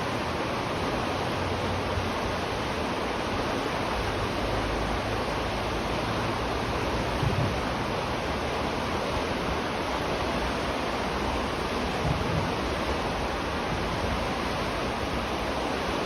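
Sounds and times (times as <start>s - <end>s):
low water surge: 0.0s - 16.0s
river water rushing: 0.0s - 16.0s.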